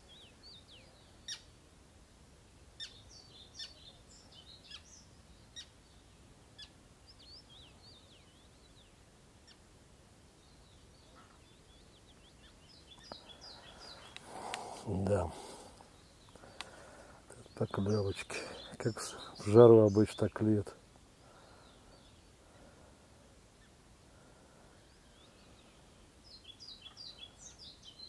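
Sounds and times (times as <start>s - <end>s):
small birds chirping: 0.0s - 1.7s, 2.6s - 28.0s.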